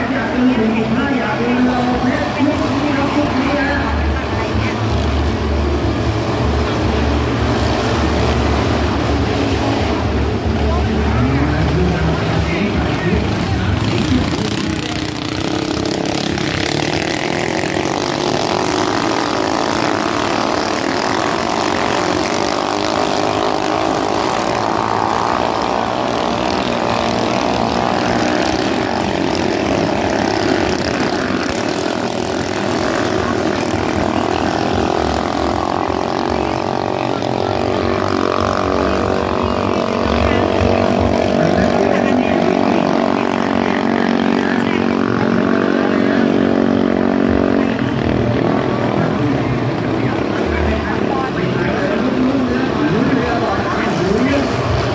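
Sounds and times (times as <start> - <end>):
motorboat engine running: 0.0 - 54.9.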